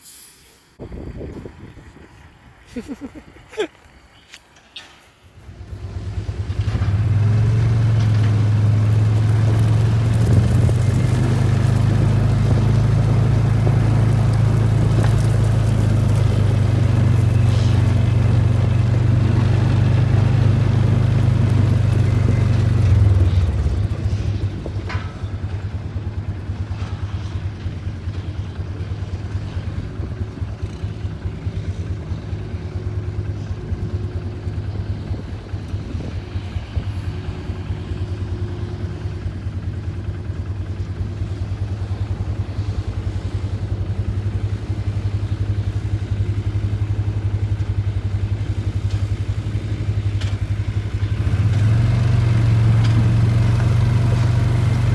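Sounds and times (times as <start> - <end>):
tractor engine running: 0.8 - 54.9.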